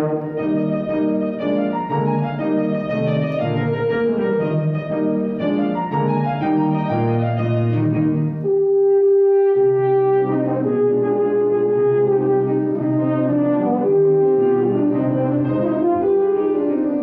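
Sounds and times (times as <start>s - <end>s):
piano playing repeated chords: 0.0s - 17.0s.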